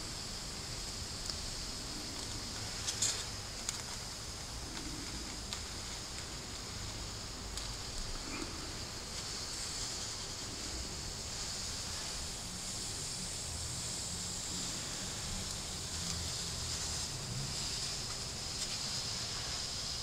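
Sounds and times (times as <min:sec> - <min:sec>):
hot wire cutting foam hiss: 0:00.0 - 0:20.0.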